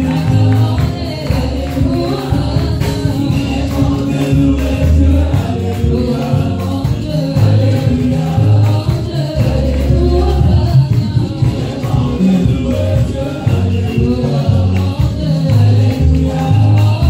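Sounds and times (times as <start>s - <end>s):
deep bass notes: 0.0s - 17.0s
group of voices singing: 0.0s - 17.0s
steady percussion beat: 0.0s - 17.0s.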